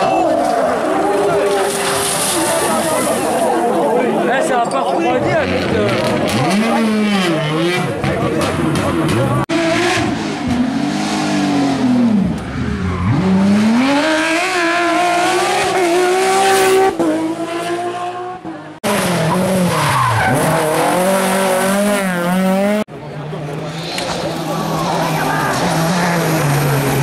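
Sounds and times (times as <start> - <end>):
rally car engines revving: 0.0 - 27.0.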